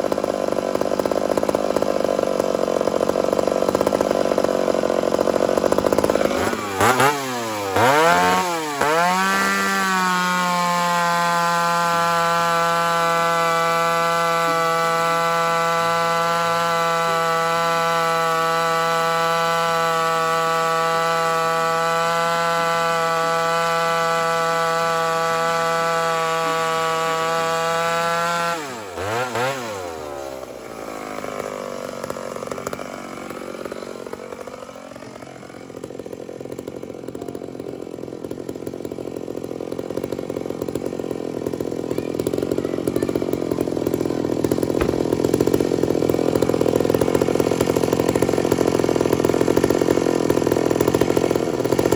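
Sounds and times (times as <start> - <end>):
chainsaw running at high throttle: 0.0 - 51.9.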